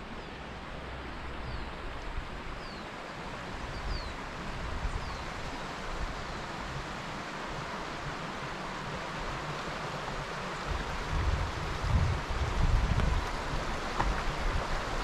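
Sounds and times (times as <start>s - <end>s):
stream running over stones: 0.0s - 15.0s.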